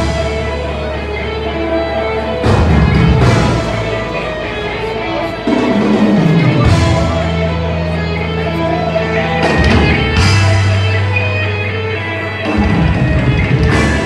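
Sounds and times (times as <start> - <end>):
live rock band playing loudly: 0.0 - 14.0.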